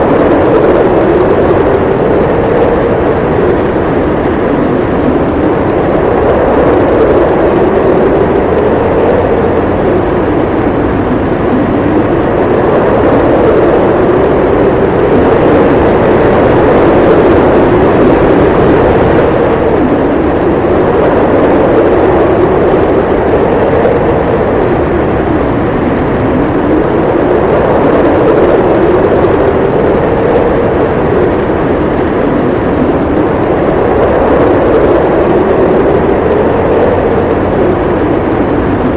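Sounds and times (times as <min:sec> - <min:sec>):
snowstorm wind howling: 0:00.0 - 0:38.9.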